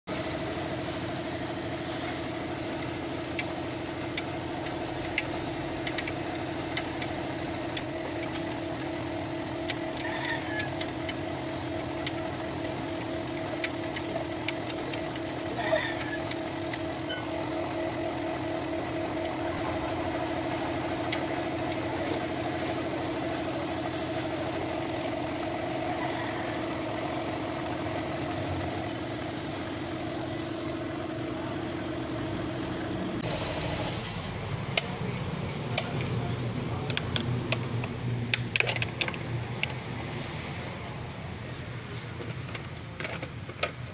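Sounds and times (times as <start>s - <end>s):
vehicle engine idling: 0.1s - 43.9s.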